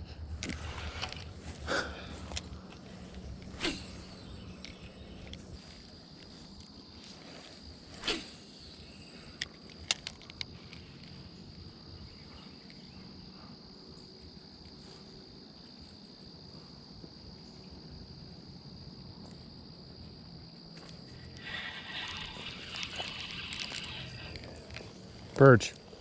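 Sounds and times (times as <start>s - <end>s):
crickets chirping chorus: 0.0s - 26.0s.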